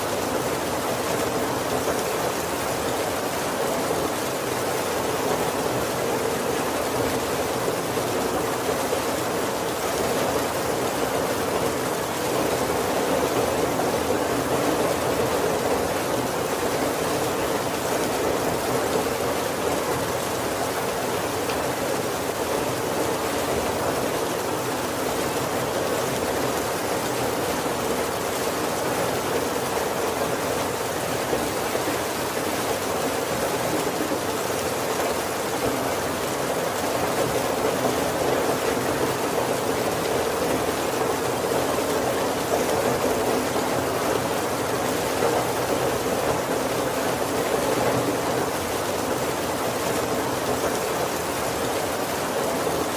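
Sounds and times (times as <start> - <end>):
heavy rain on wooden roof: 0.0 - 52.9.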